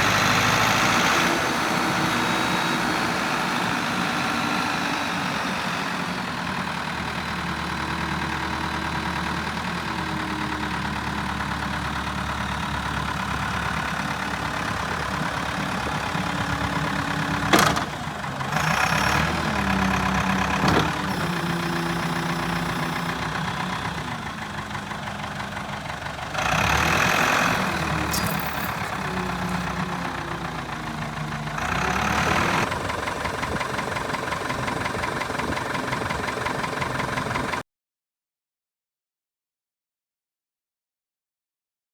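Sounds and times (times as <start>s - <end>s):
diesel forklift engine running: 0.0s - 37.6s.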